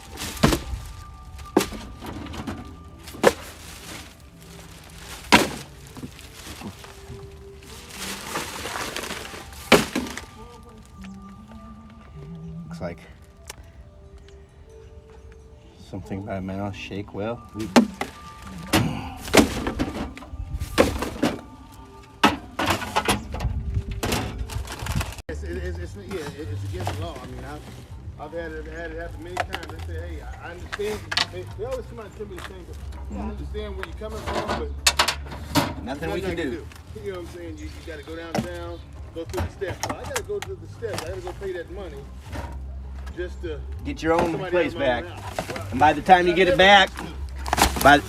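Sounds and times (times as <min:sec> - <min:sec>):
background music: 0:00.0 - 0:48.0.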